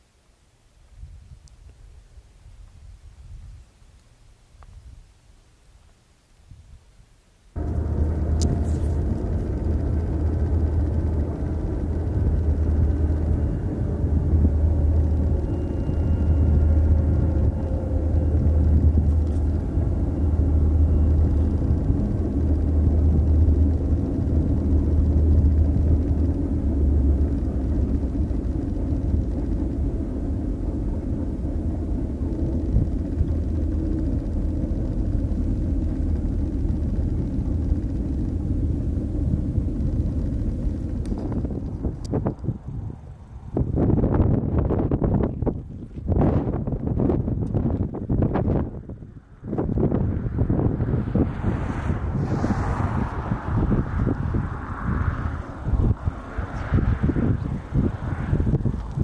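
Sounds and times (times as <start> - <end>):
diesel locomotive throbbing: 7.6 - 59.0.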